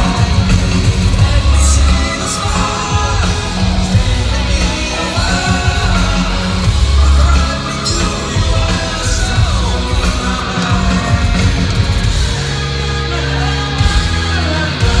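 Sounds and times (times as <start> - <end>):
drums: 0.0 - 15.0
electric guitar: 0.0 - 15.0
live rock band: 0.0 - 15.0.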